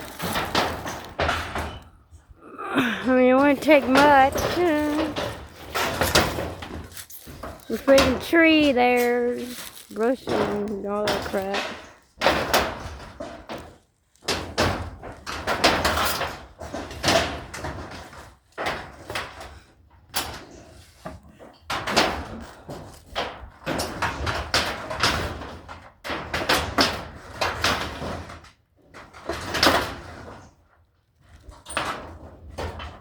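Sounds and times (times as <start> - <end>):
boards being pried and hammered: 0.0 - 1.9, 3.4 - 9.5, 10.2 - 30.5.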